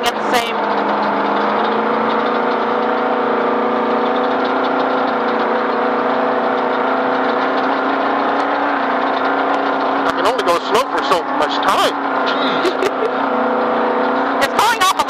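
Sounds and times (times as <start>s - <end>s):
vehicle engine running steadily: 0.0s - 15.0s.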